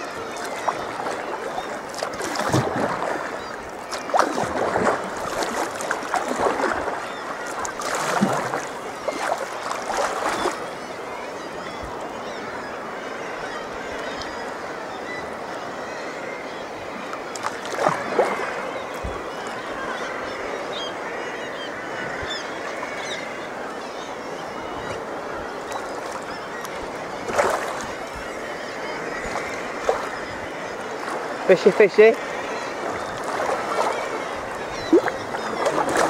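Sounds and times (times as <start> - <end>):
sea water washing around kayak: 0.0 - 36.0.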